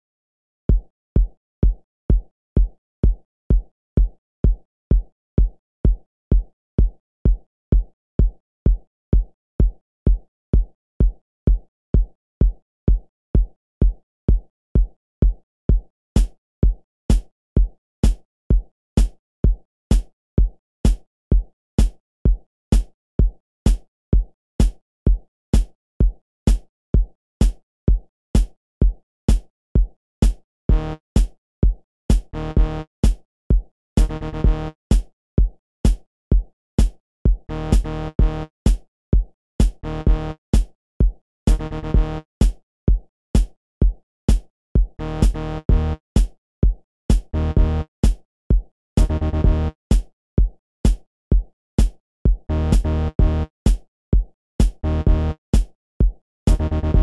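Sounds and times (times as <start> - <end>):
drum machine kick drum: 0.7 - 30.4, 31.2 - 57.0.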